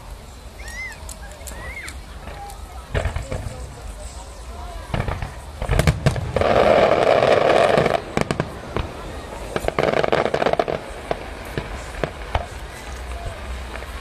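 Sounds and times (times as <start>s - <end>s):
firework bangs and crackles: 0.0s - 14.0s.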